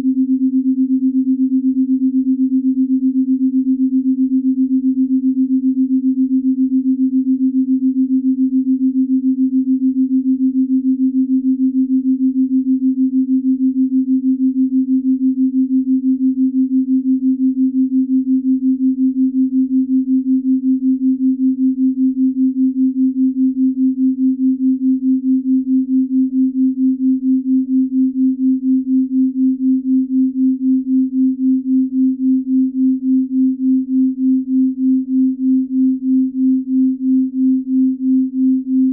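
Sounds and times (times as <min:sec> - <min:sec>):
low pulsing pure tone: 0:00.0 - 0:38.9.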